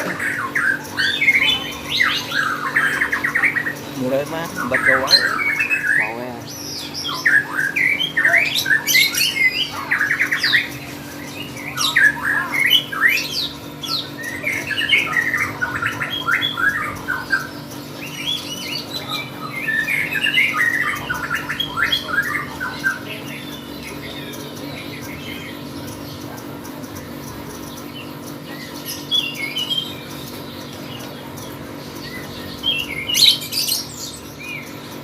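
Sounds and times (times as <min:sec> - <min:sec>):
lovebird chattering: 0:00.0 - 0:35.0.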